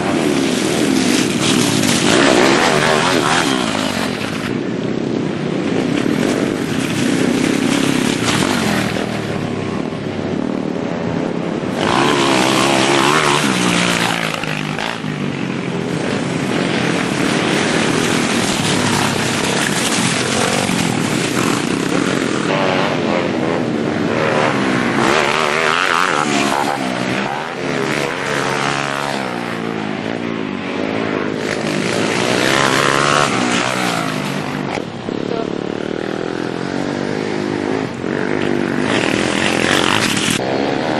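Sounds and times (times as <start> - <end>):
pit bike engines revving: 0.0 - 40.9.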